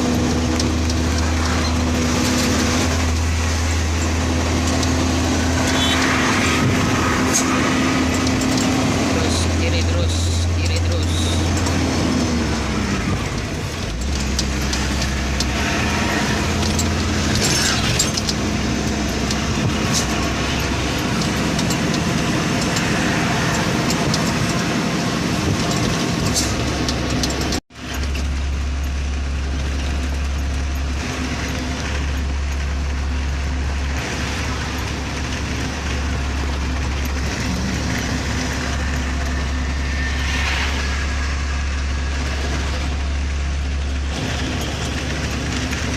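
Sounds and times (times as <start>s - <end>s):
road noise: 0.0s - 45.9s
truck engine drone: 0.0s - 45.9s.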